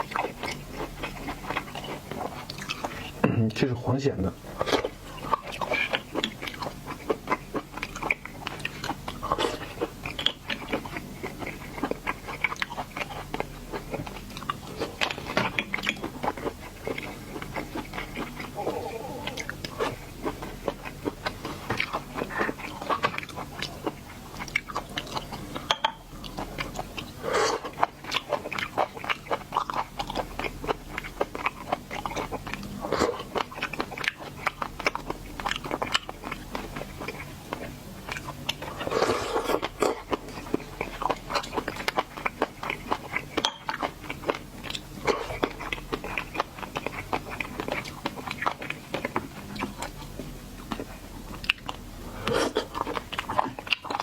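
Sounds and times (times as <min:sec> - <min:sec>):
wet chewing and crunching: 0:00.0 - 0:54.0.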